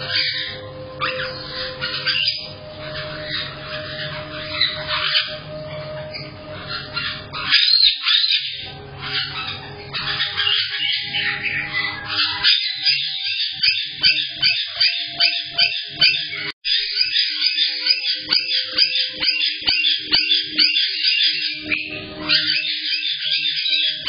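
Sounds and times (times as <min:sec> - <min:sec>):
parrots chattering and squawking: 0:00.0 - 0:24.0
sharp bird calls: 0:00.0 - 0:24.0.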